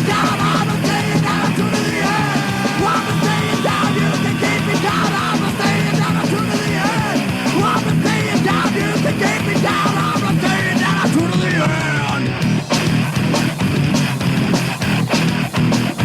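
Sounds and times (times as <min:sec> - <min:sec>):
thrash metal band playing: 0:00.0 - 0:16.0.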